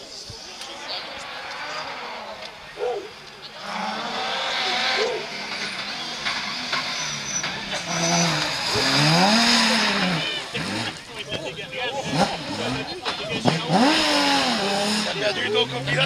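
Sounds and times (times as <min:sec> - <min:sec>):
rally car engine accelerating: 0:00.3 - 0:16.0.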